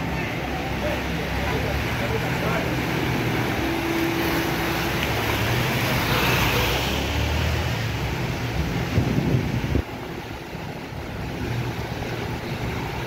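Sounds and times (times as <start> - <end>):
tyres through muddy water: 0.0 - 13.0.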